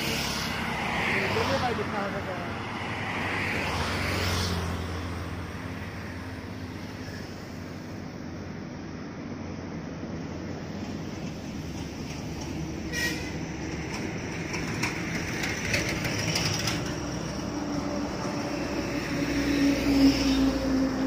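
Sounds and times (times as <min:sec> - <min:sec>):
heavy vehicle engine droning: 0:00.0 - 0:21.0.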